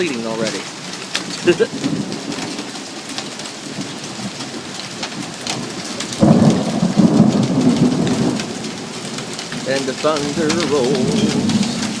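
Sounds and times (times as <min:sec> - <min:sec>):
heavy rain: 0:00.0 - 0:12.0
ice pellets ticking on a car: 0:00.1 - 0:12.0
rolling thunder: 0:01.2 - 0:12.0.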